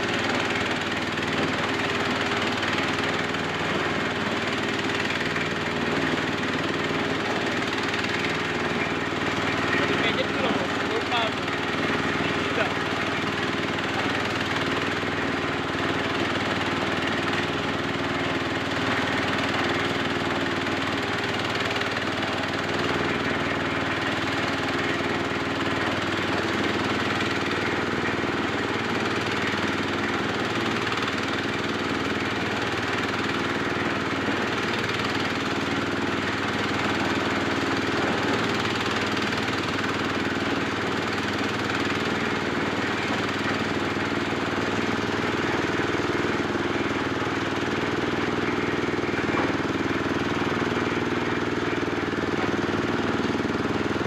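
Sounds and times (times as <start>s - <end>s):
corn sheller machine running: 0.0s - 54.0s.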